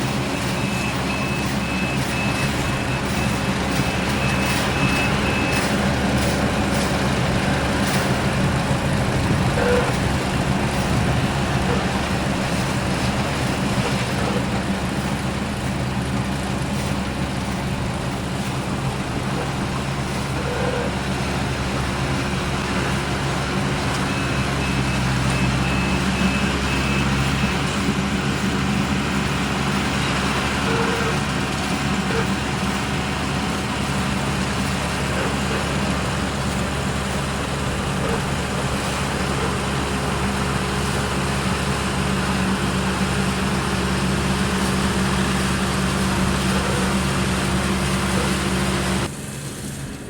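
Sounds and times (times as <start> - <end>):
combine harvester running: 0.0 - 50.0.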